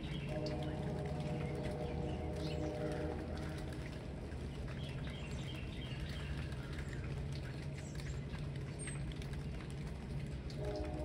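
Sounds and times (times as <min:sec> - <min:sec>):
distant freight train rumble: 0:00.0 - 0:11.0
rain dripping: 0:00.0 - 0:11.0.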